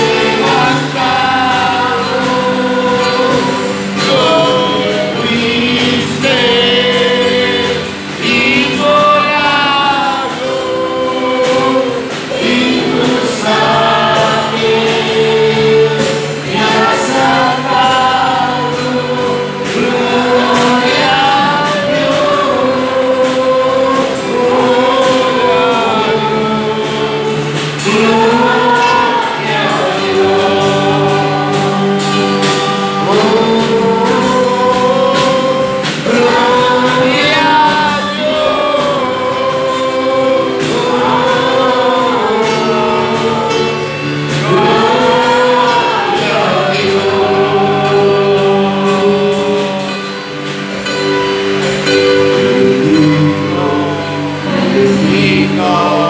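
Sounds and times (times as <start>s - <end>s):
congregation singing: 0.0s - 56.0s
musical accompaniment with held low notes: 0.0s - 56.0s.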